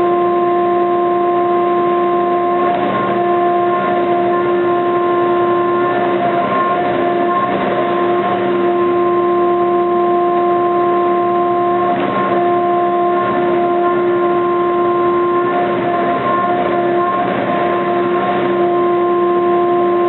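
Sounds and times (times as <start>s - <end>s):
milling machine cutting metal: 0.0s - 20.0s.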